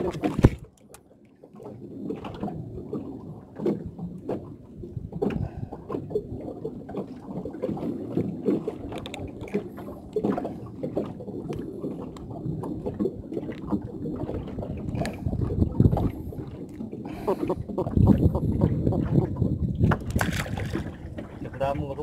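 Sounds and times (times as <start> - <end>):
water slapping against boat hull: 0.0 - 22.0.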